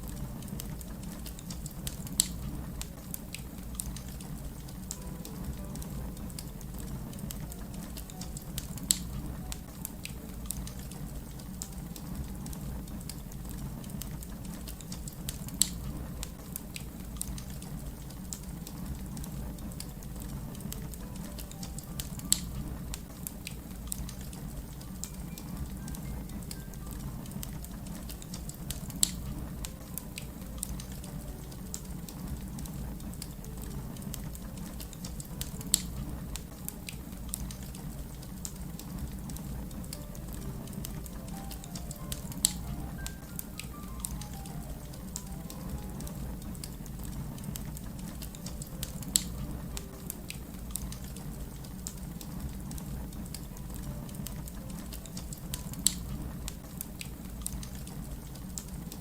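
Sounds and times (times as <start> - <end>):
steady low rumble: 0.0 - 59.0
wood fire crackling: 0.0 - 59.0.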